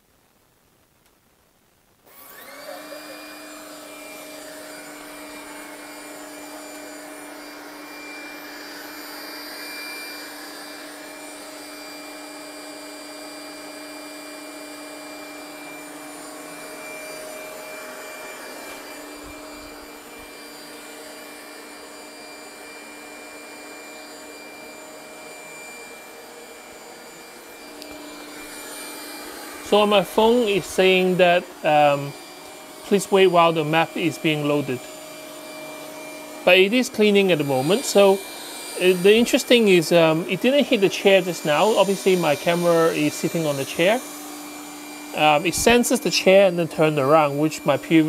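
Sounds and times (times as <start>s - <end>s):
robot vacuum fan whine: 2.1s - 48.0s.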